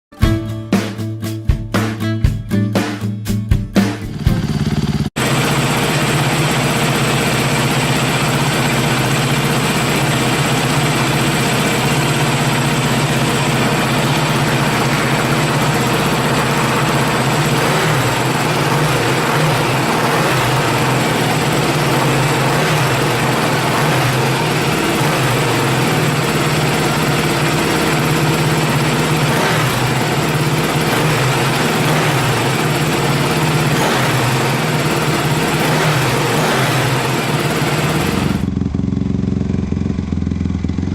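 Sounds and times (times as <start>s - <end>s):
motorcycle engine idling: 4.1s - 40.9s.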